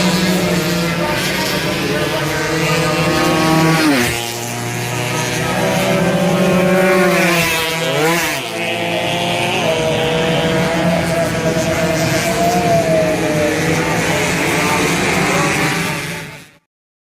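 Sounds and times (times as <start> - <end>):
racing motorcycle engines revving: 0.0 - 16.7.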